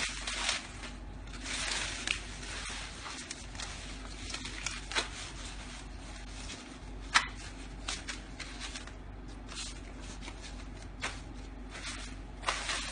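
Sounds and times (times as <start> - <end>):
banknotes rustling: 0.0 - 12.9.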